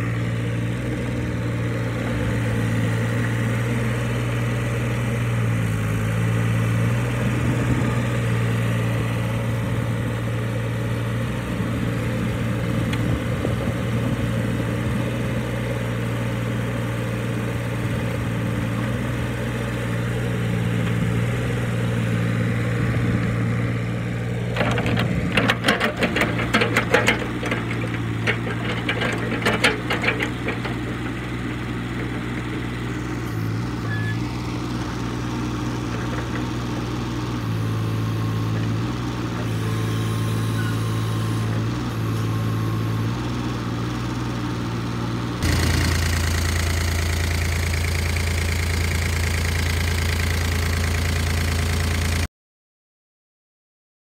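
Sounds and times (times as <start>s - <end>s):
excavator diesel engine running: 0.0s - 52.3s.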